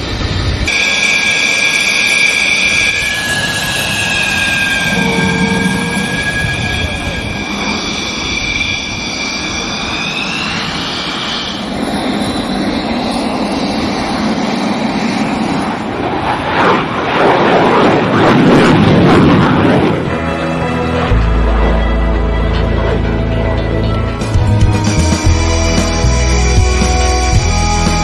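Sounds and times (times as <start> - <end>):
jet roaring past: 0.0 - 24.4
jet turbine whine: 0.0 - 25.2.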